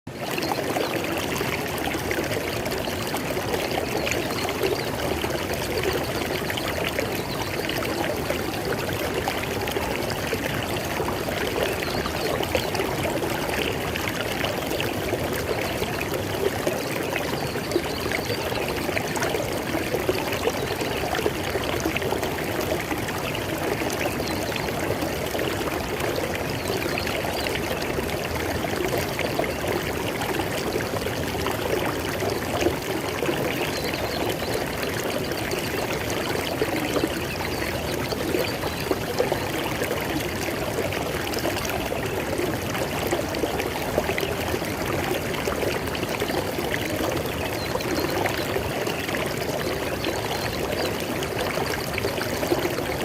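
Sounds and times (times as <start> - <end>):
river water flowing over stones: 0.1 - 53.0.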